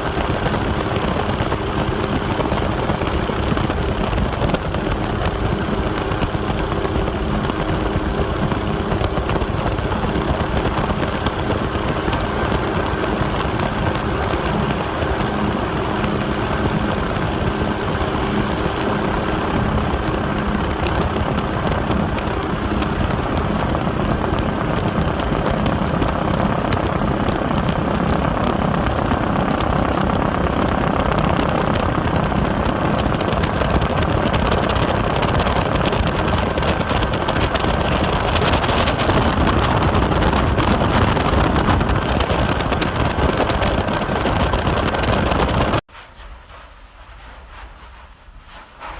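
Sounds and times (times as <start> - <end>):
engine drone: 0.0 - 45.8.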